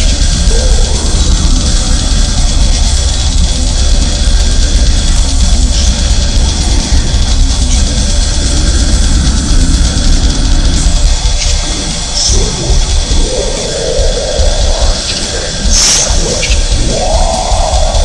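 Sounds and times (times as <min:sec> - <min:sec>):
heavy metal music: 0:00.0 - 0:18.0.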